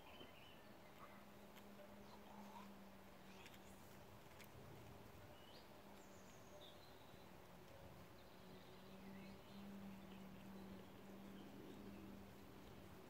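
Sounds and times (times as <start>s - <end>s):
light background hiss: 0.0s - 13.0s
low steady hum: 0.0s - 13.0s.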